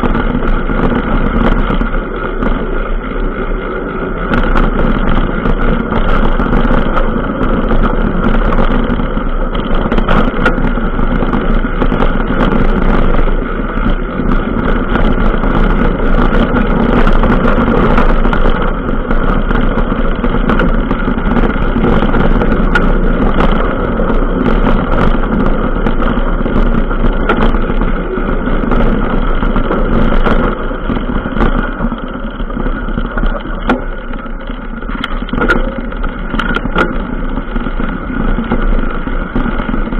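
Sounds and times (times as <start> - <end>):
vehicle on dirt track: 0.0 - 39.9.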